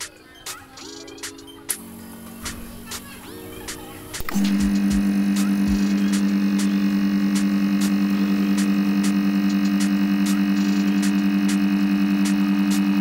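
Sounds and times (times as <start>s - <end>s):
loud electrical hum: 0.8s - 13.0s.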